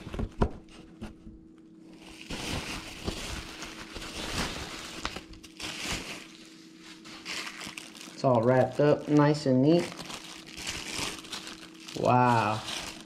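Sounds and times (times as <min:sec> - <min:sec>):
plastic wrap crinkling: 0:01.9 - 0:13.0.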